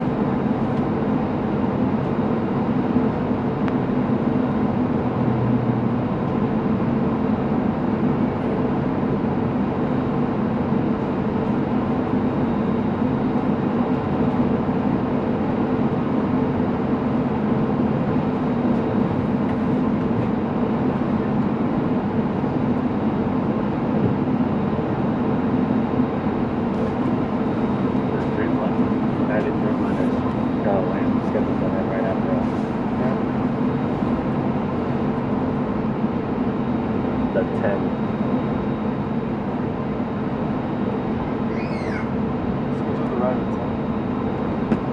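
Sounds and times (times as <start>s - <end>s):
aircraft cabin rumble: 0.0s - 44.9s.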